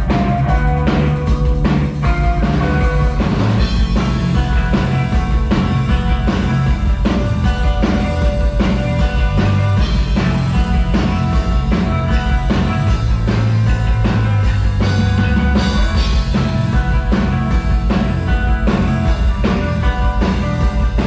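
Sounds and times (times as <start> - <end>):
drum kit beat: 0.0 - 21.0
rock band playing: 0.0 - 21.0.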